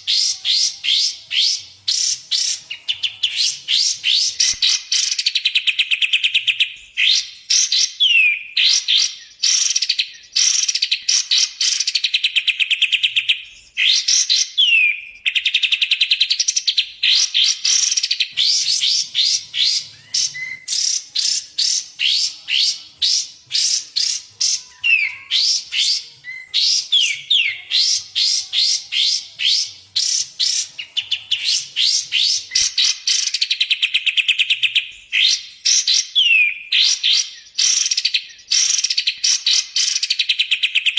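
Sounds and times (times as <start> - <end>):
birds chattering and trilling: 0.0 - 40.9
downward-slurred bird whistle: 0.0 - 40.9.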